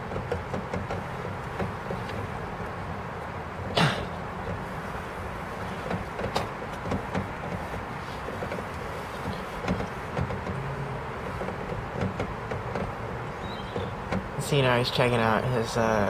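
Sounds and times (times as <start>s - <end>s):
light clicks and knocks: 0.0s - 15.2s
car engine idling: 0.0s - 16.0s.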